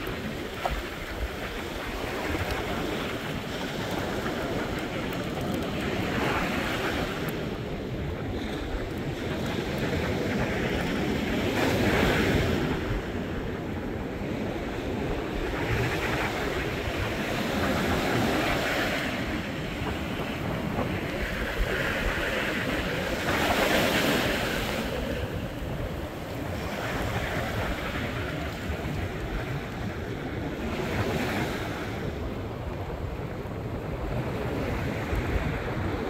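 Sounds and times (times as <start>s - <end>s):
rough sea surf: 0.0s - 36.0s
wind buffeting microphone: 0.0s - 36.0s.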